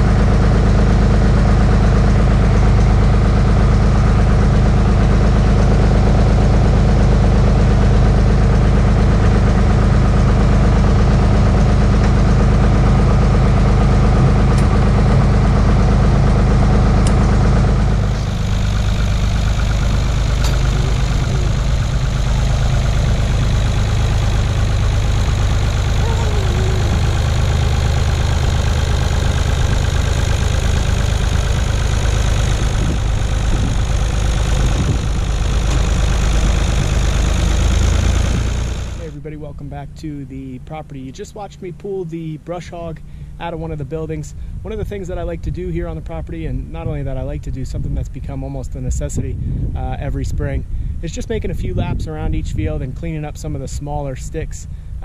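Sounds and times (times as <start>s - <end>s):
diesel engine running slowly: 0.0s - 55.0s.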